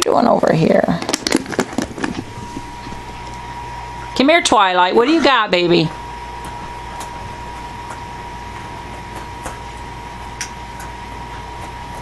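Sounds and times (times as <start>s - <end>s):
indoor background hum: 0.0s - 12.0s.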